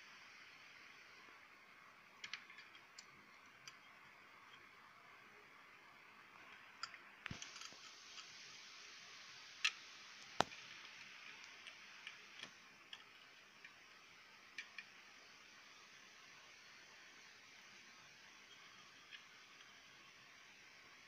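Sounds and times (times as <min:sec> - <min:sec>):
faint hiss: 0:00.0 - 0:21.0.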